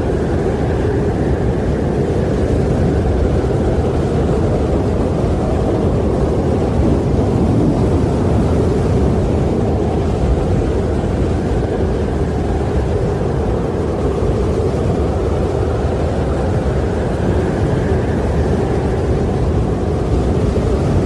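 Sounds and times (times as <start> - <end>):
wind blowing: 0.0 - 21.0.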